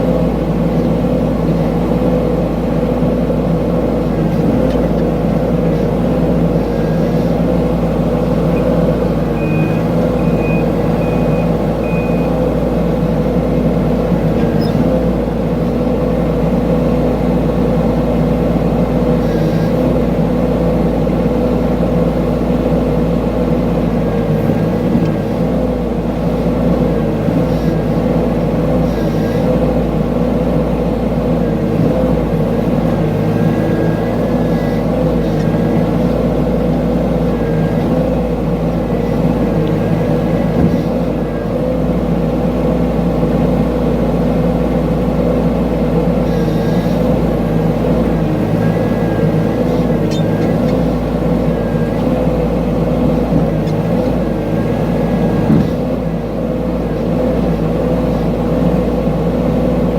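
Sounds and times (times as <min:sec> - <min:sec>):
mini excavator engine running: 0:00.0 - 0:59.9.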